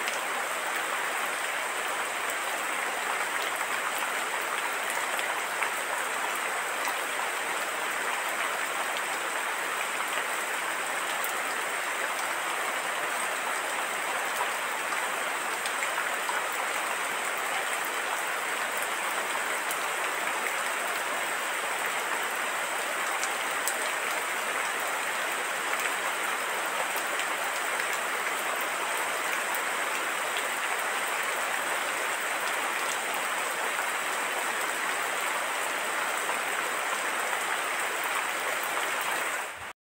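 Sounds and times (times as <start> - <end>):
rain falling: 0.0 - 39.8.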